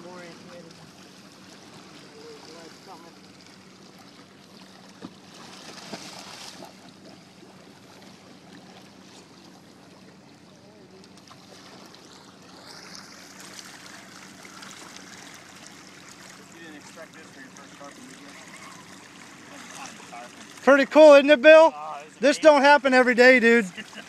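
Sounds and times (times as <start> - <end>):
water splashing against boat hull: 0.0 - 22.2
steady low hum: 0.0 - 24.0.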